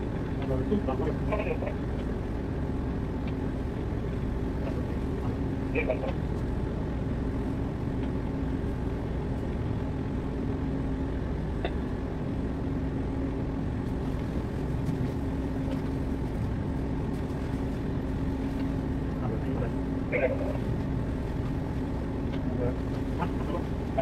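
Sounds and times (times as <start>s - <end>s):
ship engine rumble and hum: 0.0s - 24.0s.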